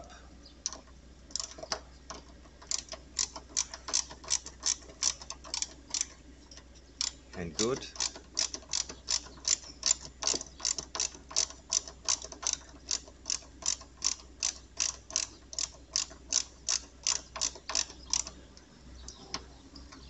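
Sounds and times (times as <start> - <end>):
ratchet wrench clicking: 0.6 - 18.4.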